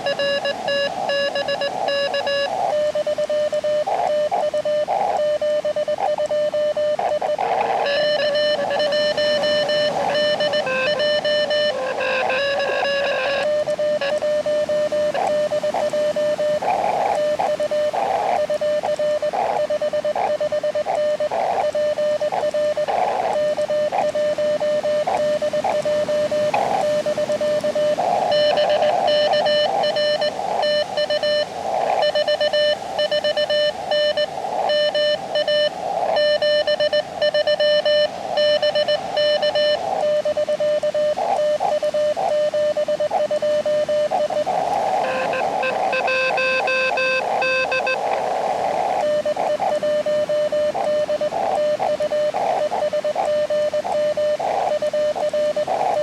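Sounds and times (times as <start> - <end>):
morse code tone: 0.0 - 56.0
radio band hiss: 0.0 - 56.0.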